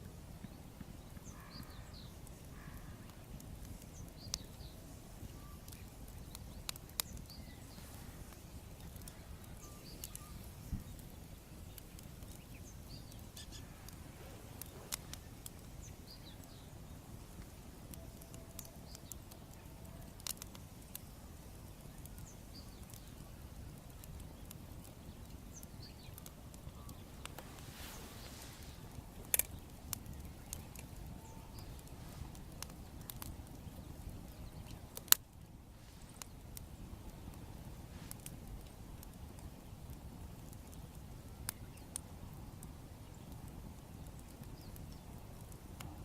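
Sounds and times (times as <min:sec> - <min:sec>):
low outdoor rumble: 0:00.0 - 0:46.0
wood bonfire crackling: 0:00.0 - 0:46.0
small birds chirping: 0:00.3 - 0:45.8.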